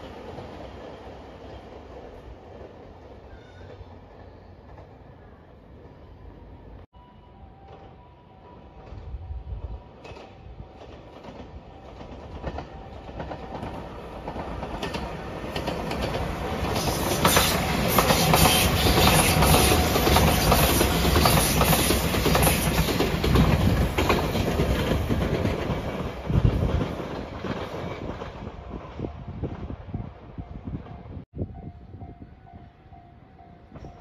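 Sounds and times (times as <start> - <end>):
electric train rumbling past: 0.0 - 34.0.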